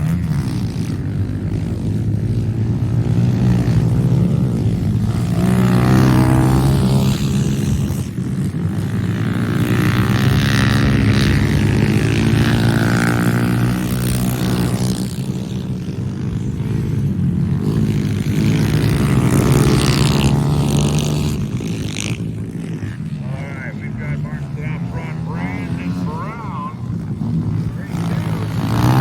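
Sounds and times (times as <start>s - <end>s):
pit bike engine revving: 0.0s - 29.0s.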